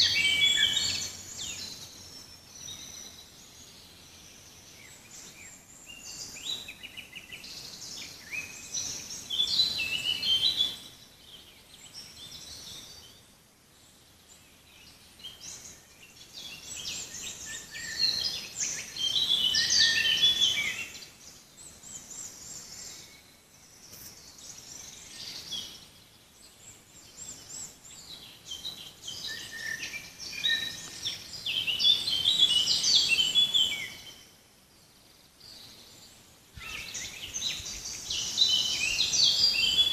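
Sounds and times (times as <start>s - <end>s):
soft bird chirps: 0.0s - 39.9s
songbirds singing: 0.0s - 39.9s.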